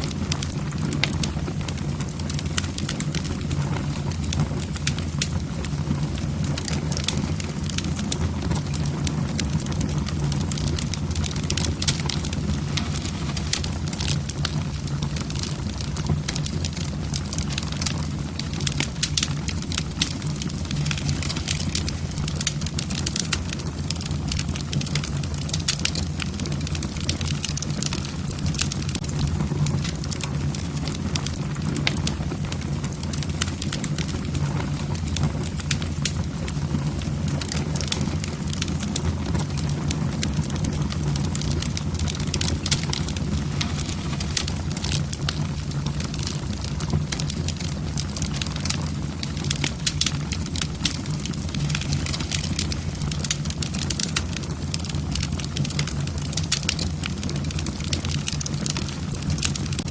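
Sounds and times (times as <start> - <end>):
logs crackling and popping: 0.0 - 59.9
low fire rumble: 0.0 - 59.9.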